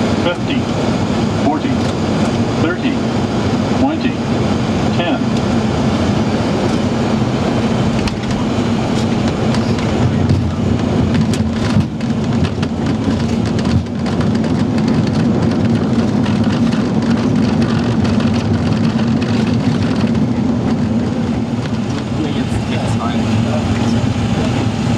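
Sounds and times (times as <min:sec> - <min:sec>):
constant low hum: 0:00.0 - 0:24.9
engine and airflow rush: 0:00.0 - 0:24.9.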